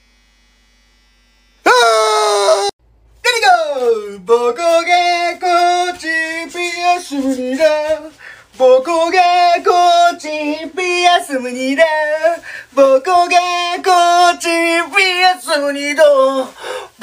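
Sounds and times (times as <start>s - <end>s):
high voice singing: 1.7s - 17.0s.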